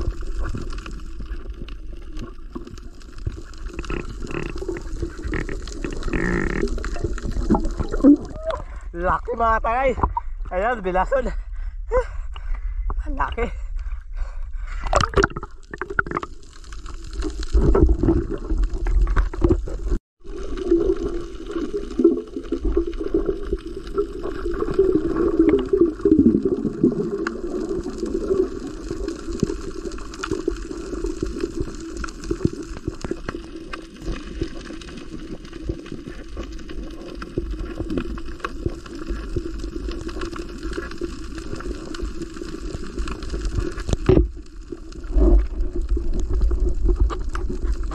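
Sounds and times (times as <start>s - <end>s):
underwater splashes and knocks: 0.0s - 8.6s, 14.8s - 47.9s
underwater sloshing and bubbling: 0.0s - 47.9s.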